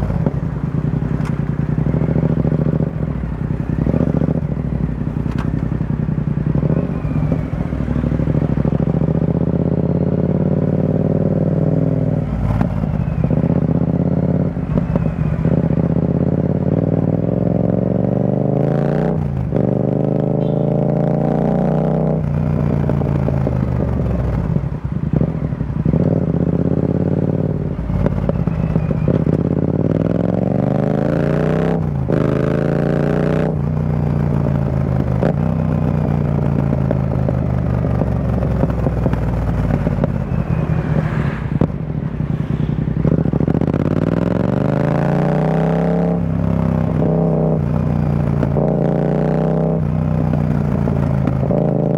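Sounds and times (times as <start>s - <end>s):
motorcycle exhaust revving: 0.0s - 51.9s.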